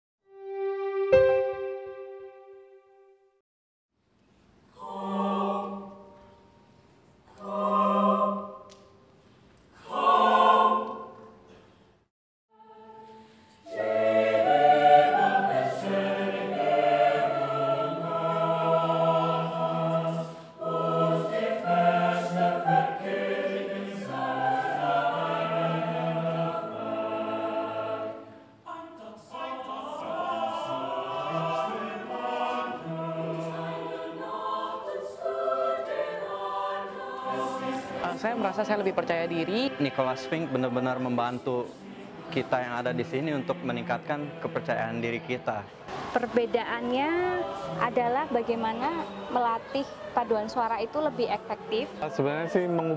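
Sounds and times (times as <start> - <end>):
mixed choir singing: 4.7 - 9.0, 9.7 - 11.6, 12.5 - 52.9.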